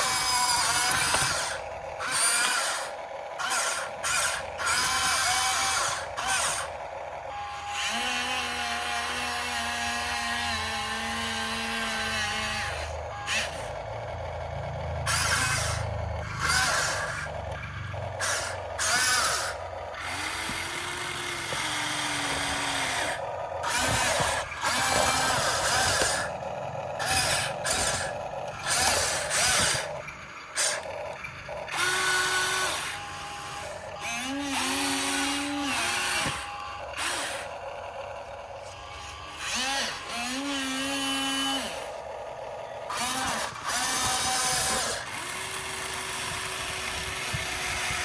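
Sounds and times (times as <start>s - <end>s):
toy excavator motors whining: 0.0s - 48.0s.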